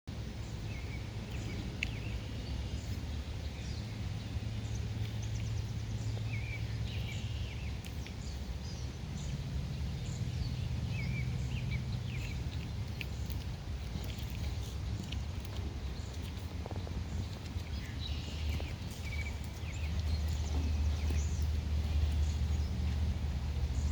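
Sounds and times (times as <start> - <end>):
small birds chirping and trilling: 0.1 - 23.9
steady low rumble: 0.1 - 23.9.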